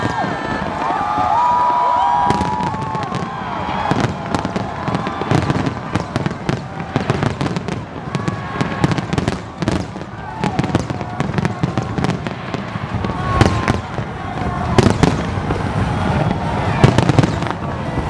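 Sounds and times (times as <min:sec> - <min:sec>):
crowd shouting: 0:00.0 - 0:18.0
fireworks bangs and crackles: 0:00.0 - 0:18.0.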